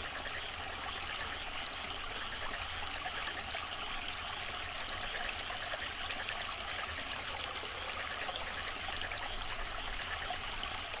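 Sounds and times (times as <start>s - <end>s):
aquarium water trickling: 0.0s - 11.0s.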